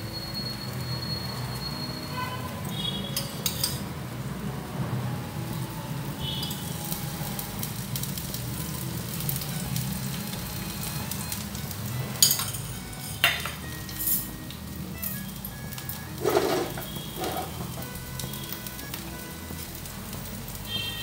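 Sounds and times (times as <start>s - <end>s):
batter sizzling on hot iron: 0.2s - 21.0s.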